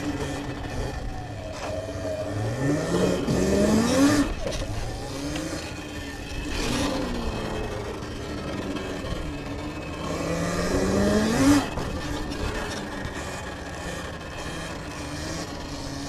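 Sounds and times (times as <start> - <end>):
electric motorbike motor whining: 0.0 - 16.0.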